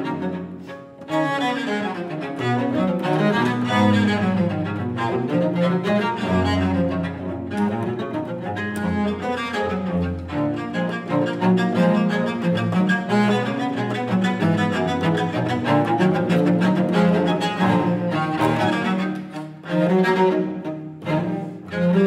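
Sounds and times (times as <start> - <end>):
cellos playing classical duet: 0.0 - 22.0.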